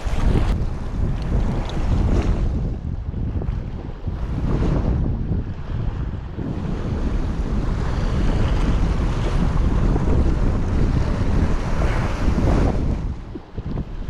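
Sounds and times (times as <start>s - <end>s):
sea waves: 0.0s - 14.0s
wind buffeting the microphone: 0.0s - 14.0s.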